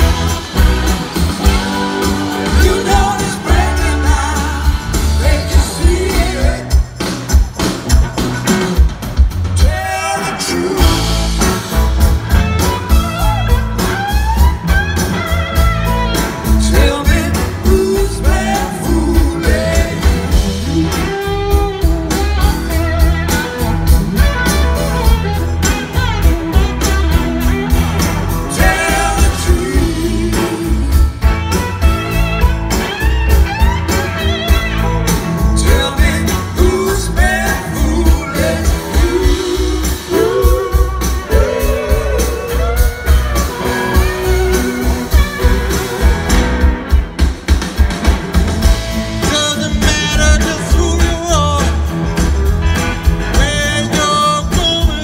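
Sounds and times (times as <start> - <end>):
live blues-rock band playing: 0.0 - 55.0.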